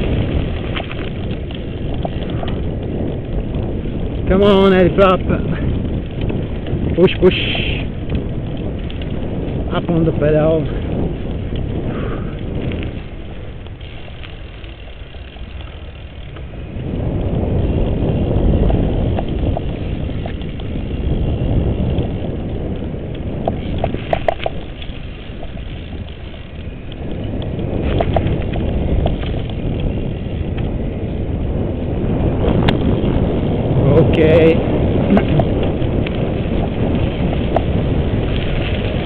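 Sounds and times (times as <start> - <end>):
bike rattles: 0.0 - 39.0
tyres and wind rumble: 0.0 - 39.0.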